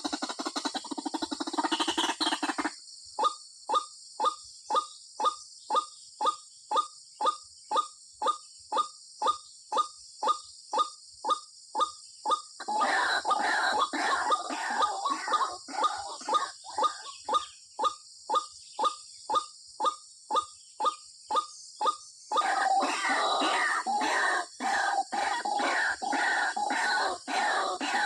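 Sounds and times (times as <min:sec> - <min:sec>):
waterhen croaking chatter: 0:00.0 - 0:28.0
waterhen short calls: 0:00.0 - 0:28.0.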